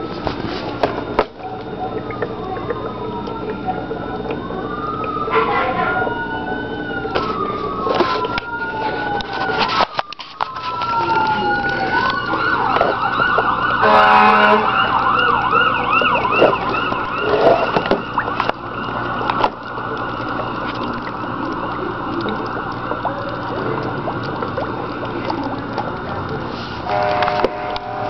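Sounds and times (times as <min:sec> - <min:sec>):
yelping siren: 0:01.4 - 0:28.0.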